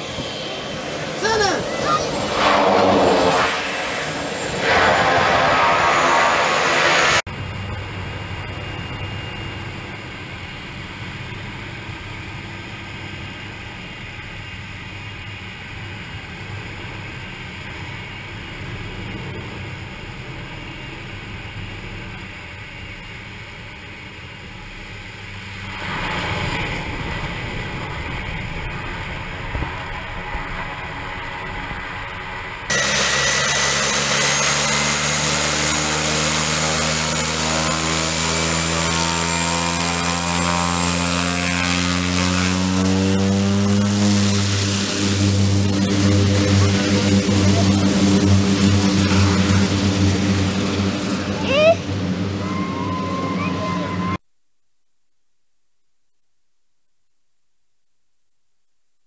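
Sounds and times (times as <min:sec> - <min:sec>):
turboprop drone in cockpit: 0:00.0 - 0:54.2
turboprop engine and propeller: 0:00.0 - 0:54.2.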